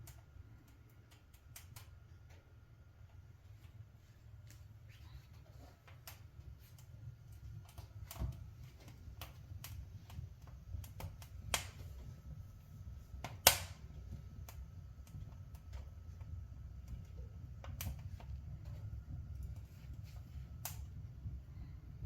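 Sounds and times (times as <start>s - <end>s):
low steady rumble: 0.0s - 22.0s
wood fire crackling: 0.0s - 22.0s.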